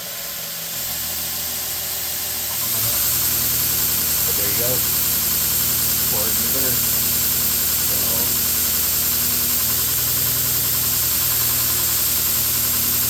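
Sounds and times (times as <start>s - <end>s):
belt grinder humming with hiss: 0.0s - 13.0s.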